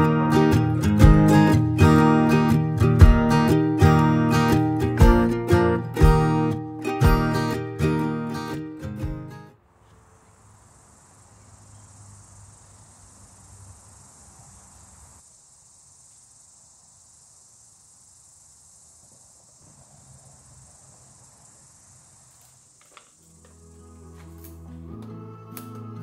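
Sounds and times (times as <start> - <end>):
crickets chirping: 0.0 - 8.9, 9.5 - 25.0.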